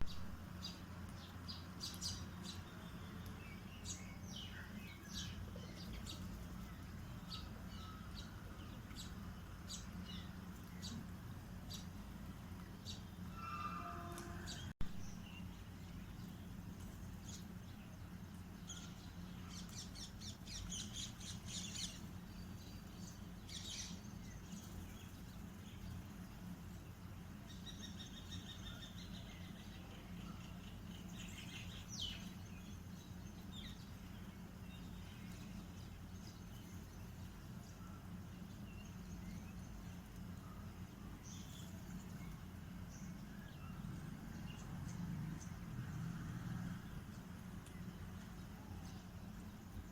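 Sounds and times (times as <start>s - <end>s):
low background hum: 0.0s - 49.9s
small birds chirping: 0.0s - 49.9s.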